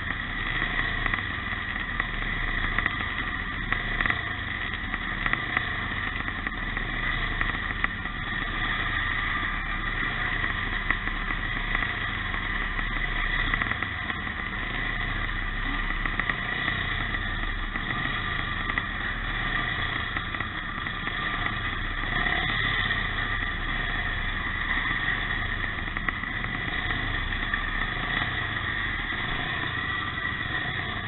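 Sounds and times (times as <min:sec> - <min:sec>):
motorcycle engines running: 0:00.0 - 0:31.0.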